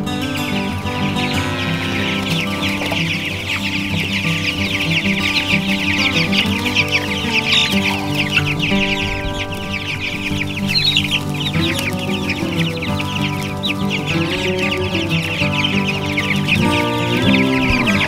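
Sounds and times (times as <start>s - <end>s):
background music: 0.0s - 18.0s
chicks peeping: 0.0s - 18.0s.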